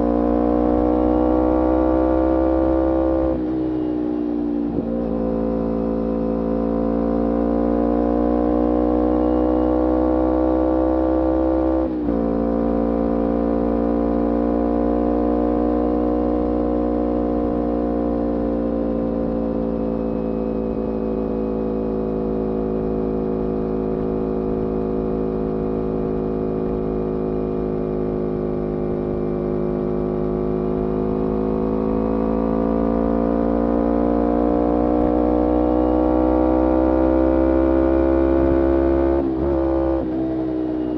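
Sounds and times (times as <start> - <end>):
motorcycle engine revving steadily: 0.0 - 40.9.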